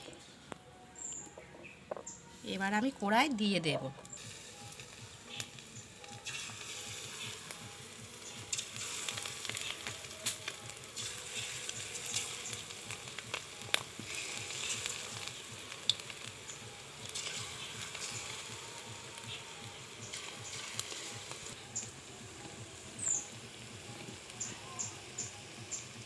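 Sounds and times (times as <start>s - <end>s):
oil crackles and pops: 4.0s - 26.0s
fritters sizzling in hot oil: 4.1s - 26.0s.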